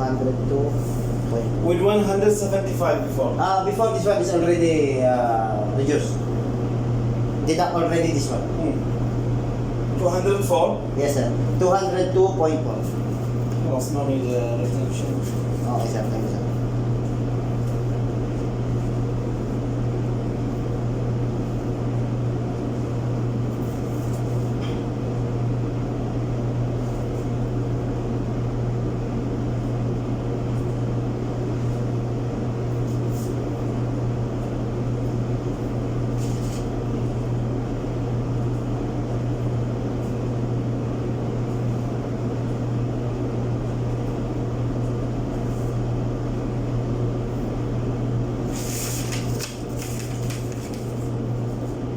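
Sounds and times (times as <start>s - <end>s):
clothes dryer humming: 0.0s - 51.9s.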